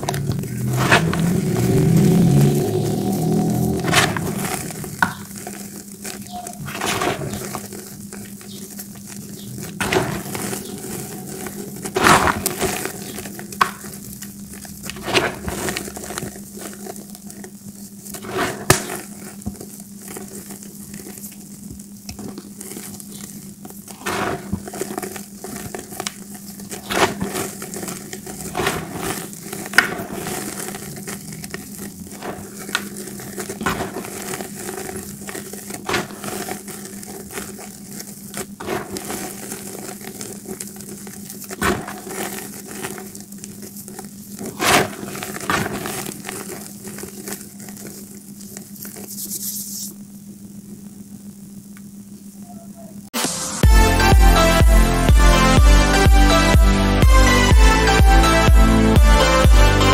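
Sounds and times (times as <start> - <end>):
chalk crunching in hands: 0.1 - 50.0.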